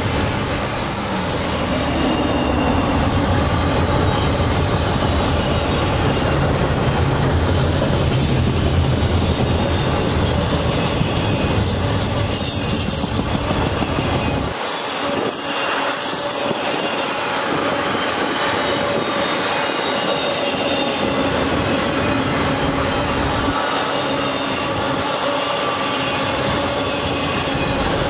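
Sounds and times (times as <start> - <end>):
wheel squeal: 0.0 - 6.4, 9.2 - 28.0
freight cars rolling on rails: 0.0 - 28.0.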